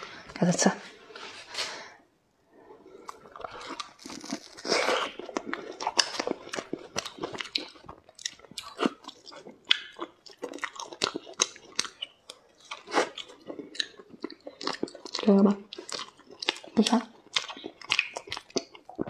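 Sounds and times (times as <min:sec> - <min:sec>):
crunchy biting and chewing: 0:03.0 - 0:19.0.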